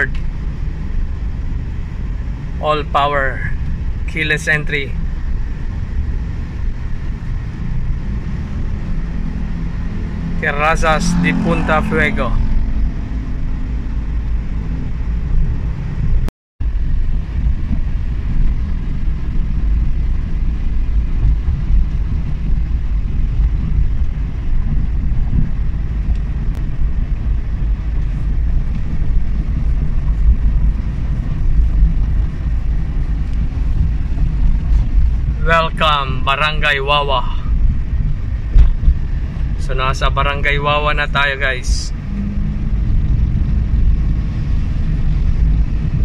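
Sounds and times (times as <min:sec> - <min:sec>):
in-cabin engine and tyre rumble: 0:00.0 - 0:46.0.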